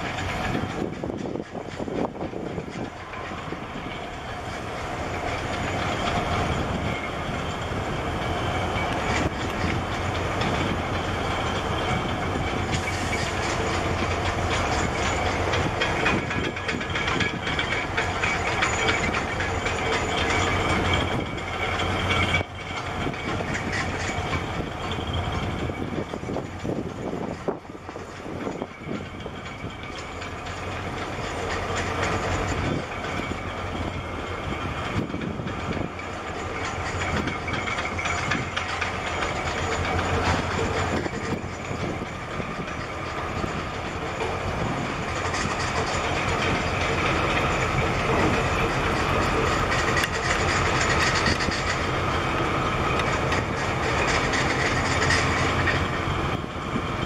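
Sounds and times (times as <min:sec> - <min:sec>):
diesel engine rumble with rattle: 0:00.0 - 0:57.0.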